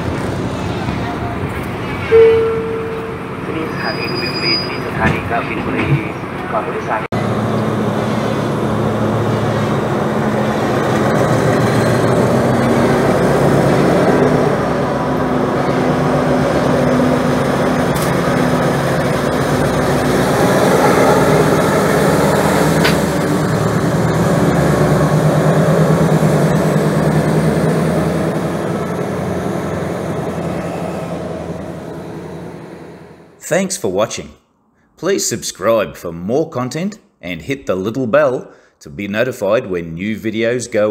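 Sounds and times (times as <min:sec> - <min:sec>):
diesel engine drone: 0:00.0 - 0:33.4
wheels rumbling on rails: 0:00.0 - 0:33.4.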